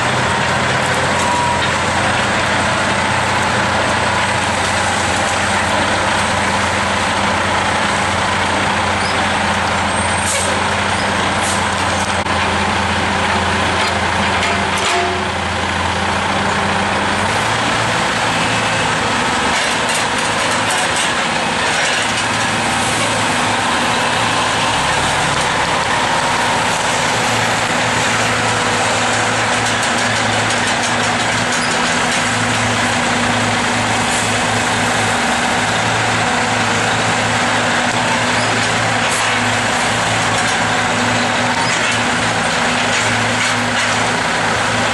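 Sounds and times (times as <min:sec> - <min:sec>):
road and mechanical noise: 0:00.0 - 0:44.9
truck diesel engine running: 0:00.0 - 0:44.9.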